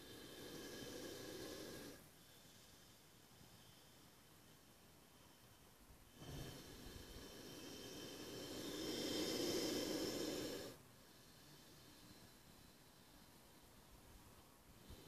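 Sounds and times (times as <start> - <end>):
snake hissing: 0.0 - 13.7.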